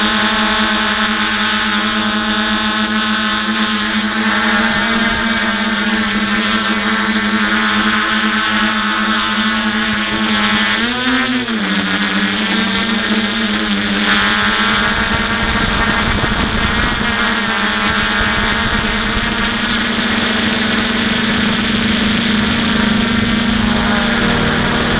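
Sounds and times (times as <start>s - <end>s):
drone motors whining: 0.0s - 24.9s
wind on microphone: 0.0s - 24.9s.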